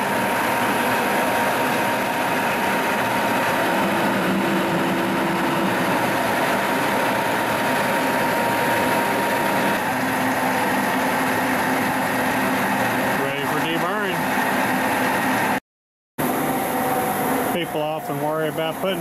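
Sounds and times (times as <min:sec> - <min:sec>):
milling machine cutting metal: 0:00.0 - 0:15.6, 0:16.2 - 0:19.0.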